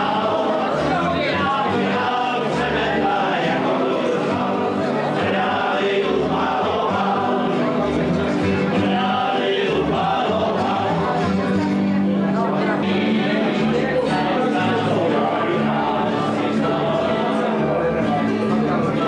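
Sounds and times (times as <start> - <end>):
acoustic guitars: 0.0 - 19.0
double bass: 0.0 - 19.0
voices singing together: 0.0 - 19.0.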